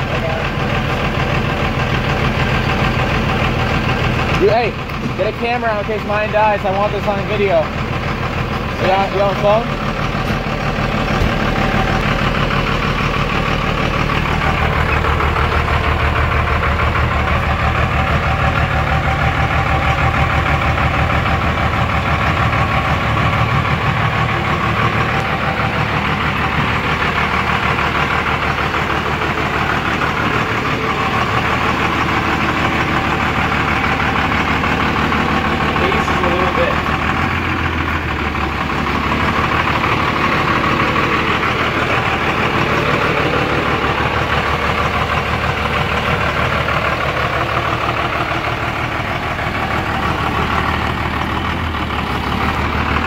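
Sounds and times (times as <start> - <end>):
diesel engine running steadily: 0.0 - 53.0.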